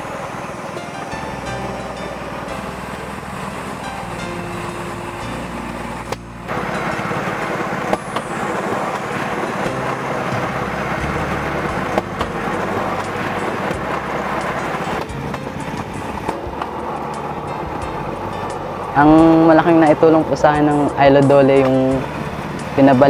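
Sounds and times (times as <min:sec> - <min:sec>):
rail trolley clattering rumble: 0:00.0 - 0:23.0.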